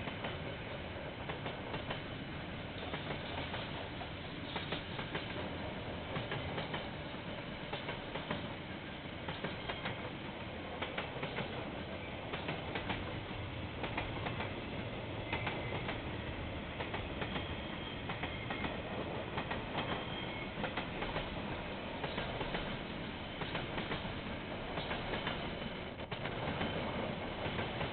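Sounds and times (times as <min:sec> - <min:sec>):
train wagons rumbling past: 0:00.0 - 0:27.9.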